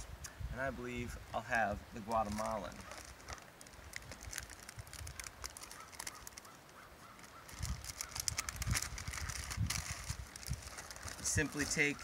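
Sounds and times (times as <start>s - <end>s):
packet crinkling and rustling: 2.1s - 12.0s.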